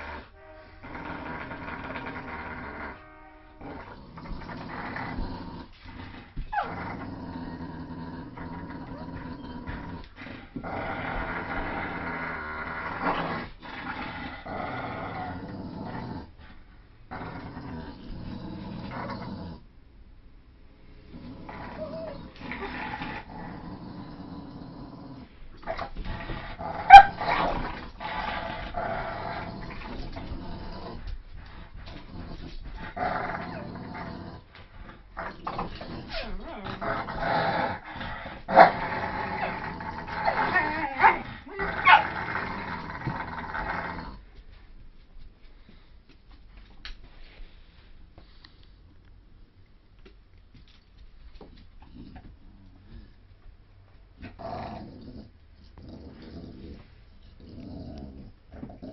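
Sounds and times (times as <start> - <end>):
dogs play-growling: 0.0 - 19.7, 20.8 - 48.6, 50.6 - 58.9.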